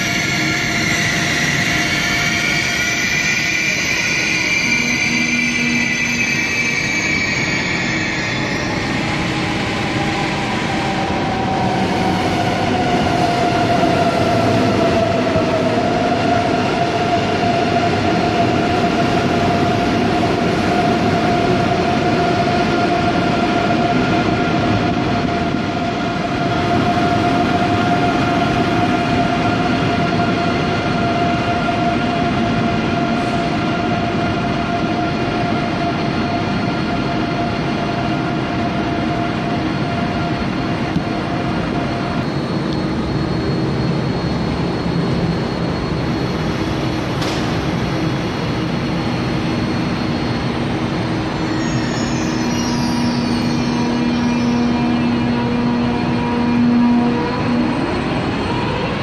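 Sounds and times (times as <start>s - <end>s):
electric train whine: 0.0s - 59.0s.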